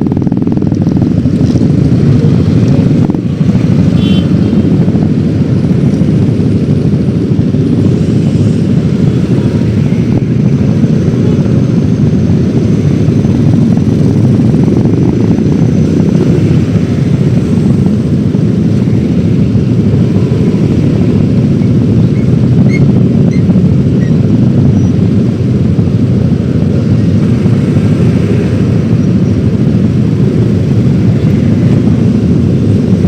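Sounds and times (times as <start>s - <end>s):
scooter engine and road noise: 0.0s - 33.0s
wind rushing over microphone: 0.0s - 33.0s.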